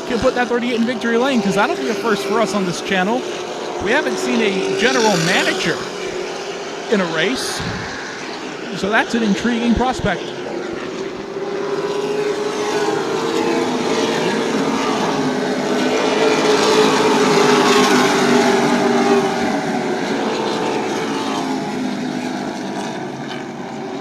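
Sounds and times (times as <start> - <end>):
race truck engines passing: 0.0 - 24.0.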